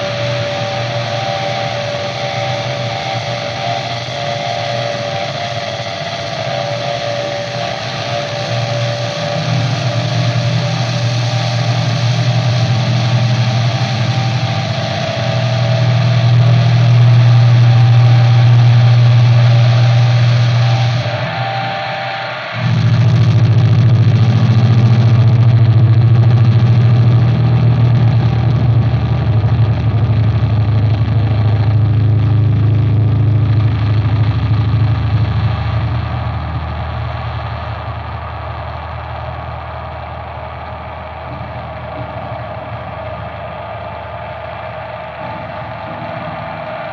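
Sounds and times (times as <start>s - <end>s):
electric guitar low drone: 0.0s - 46.9s.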